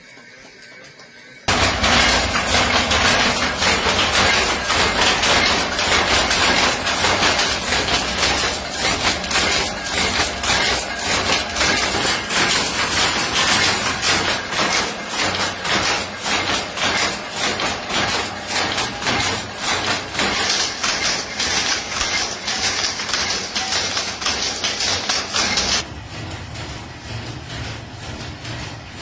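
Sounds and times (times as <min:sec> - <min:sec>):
power looms clattering: 0:01.5 - 0:29.0.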